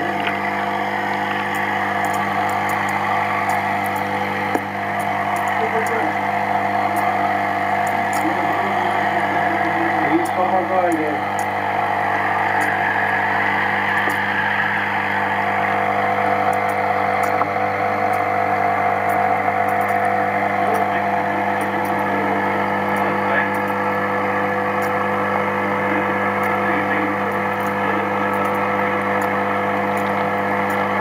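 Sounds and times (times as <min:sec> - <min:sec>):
muffled aquarium filter hum: 0:00.0 - 0:31.0.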